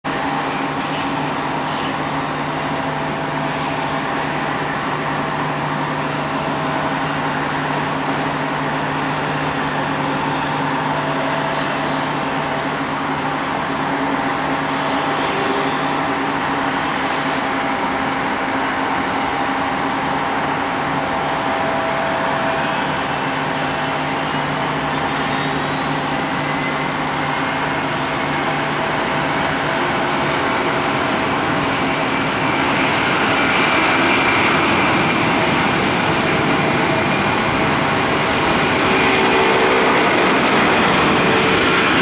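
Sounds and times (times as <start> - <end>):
jet engines hum and whine: 0.0 - 42.0.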